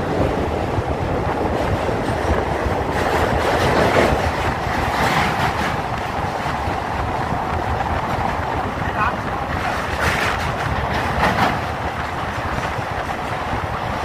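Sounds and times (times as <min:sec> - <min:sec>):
train rumbling over bridge: 0:00.0 - 0:14.0
wheels clattering on rails: 0:00.0 - 0:14.0.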